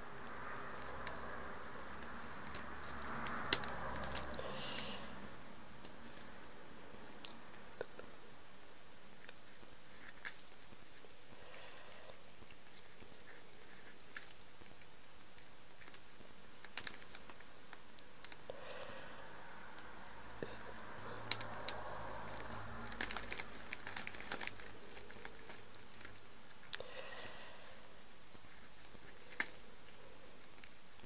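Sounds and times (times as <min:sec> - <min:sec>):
cat chewing petals: 0:00.0 - 0:06.4, 0:08.9 - 0:18.8, 0:19.4 - 0:31.0.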